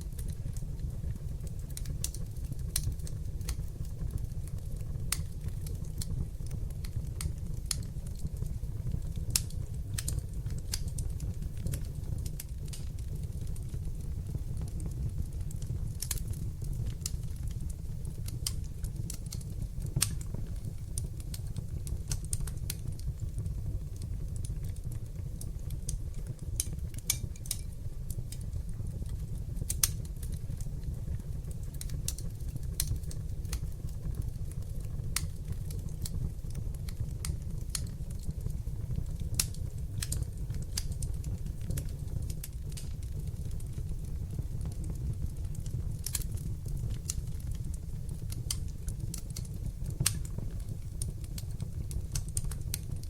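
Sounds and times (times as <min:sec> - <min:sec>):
fire pops and snaps: 0:00.0 - 0:53.0
low rumble of flames: 0:00.0 - 0:53.0.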